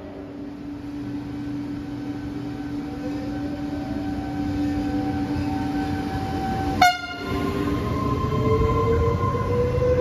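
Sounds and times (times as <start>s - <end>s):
electric train hum: 0.0s - 10.0s.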